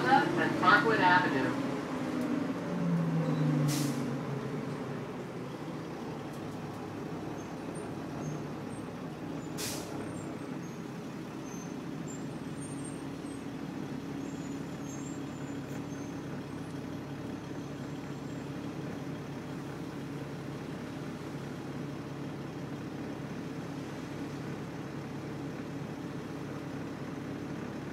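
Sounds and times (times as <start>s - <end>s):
bus engine running: 0.0s - 27.9s.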